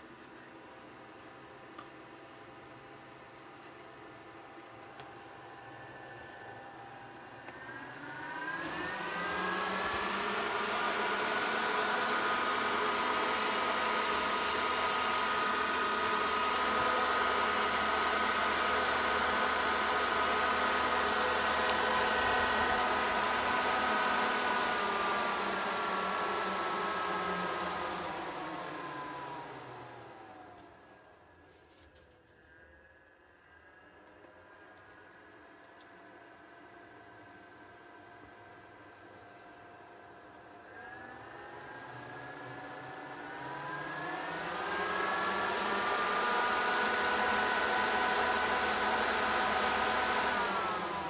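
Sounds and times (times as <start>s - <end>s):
ventilation fan whirring: 0.0s - 51.0s.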